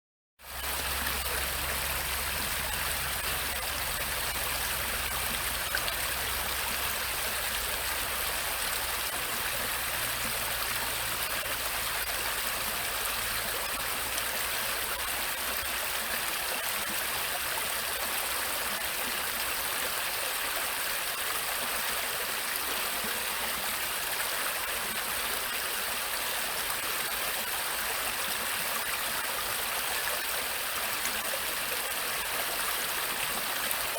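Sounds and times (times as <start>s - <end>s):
brook water flowing over rocks: 0.4s - 33.9s.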